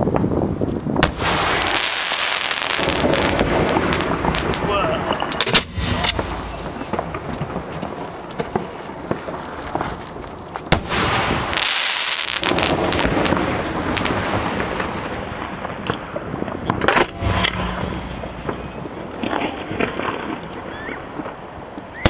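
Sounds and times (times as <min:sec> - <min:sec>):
dense crackling hiss: 0:00.0 - 0:22.0
fireworks shells launching and bursting: 0:01.0 - 0:21.4.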